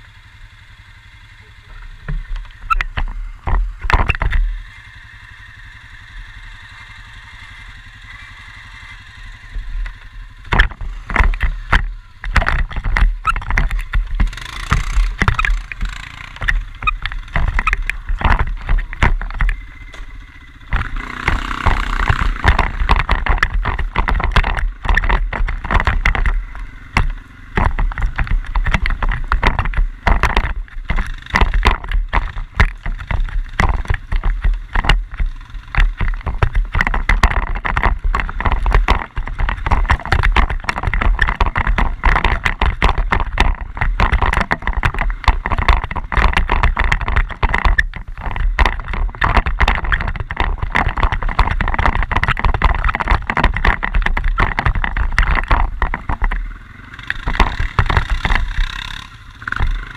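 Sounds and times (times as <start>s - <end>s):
quad bike engine running: 0.0s - 59.9s
sharp knocks and rattles: 1.8s - 5.0s, 5.6s - 59.9s.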